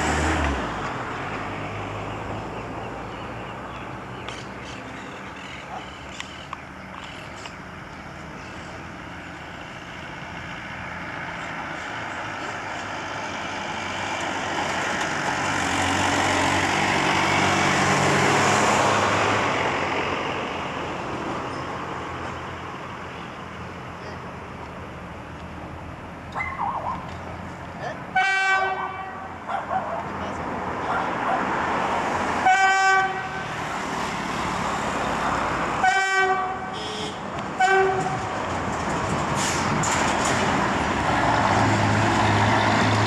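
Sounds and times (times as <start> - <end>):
railcar engine hum: 0.0 - 43.0
wheels rumbling on rails: 0.0 - 43.0.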